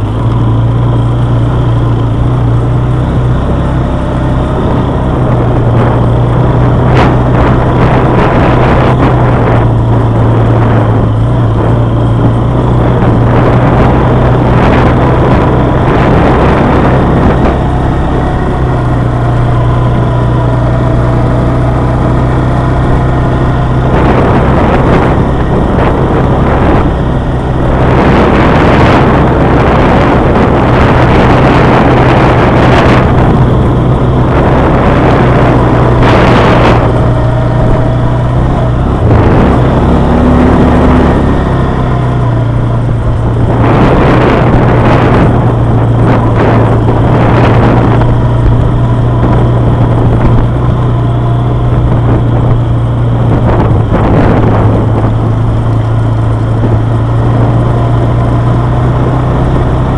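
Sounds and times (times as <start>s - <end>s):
quad bike engine running: 0.0s - 59.9s
loud rushing noise: 3.6s - 59.0s.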